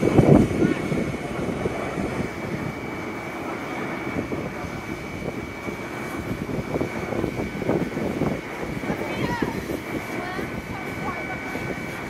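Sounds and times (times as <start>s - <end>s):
faint fire crackles: 0.0s - 12.0s
high whine: 0.0s - 12.0s
hose water rushing roar: 0.0s - 12.0s.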